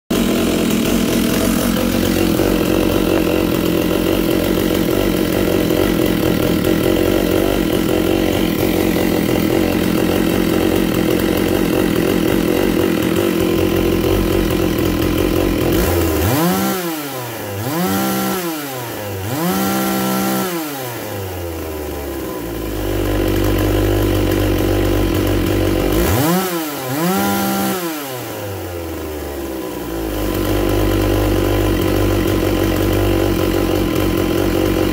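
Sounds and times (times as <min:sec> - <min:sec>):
chainsaw engine revving and idling: 0:00.1 - 0:34.9.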